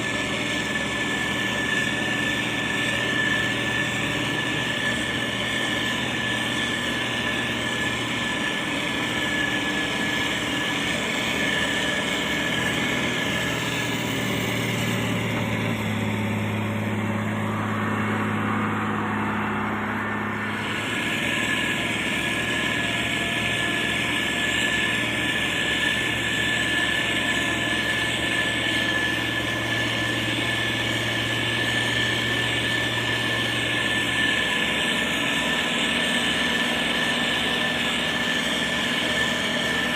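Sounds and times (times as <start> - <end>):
diesel engine running: 0.0 - 39.9
high whine: 0.0 - 39.9.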